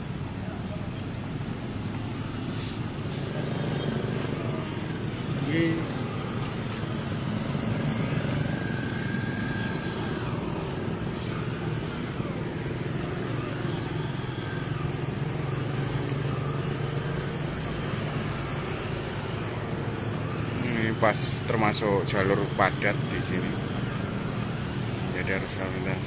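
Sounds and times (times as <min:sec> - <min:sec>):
car engines passing: 0:00.0 - 0:26.0
motorcycle engines: 0:00.0 - 0:26.0.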